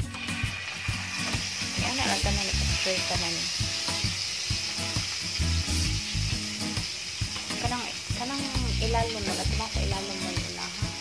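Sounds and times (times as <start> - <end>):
background music: 0.0 - 11.0
chicken sizzling in butter: 0.0 - 11.0.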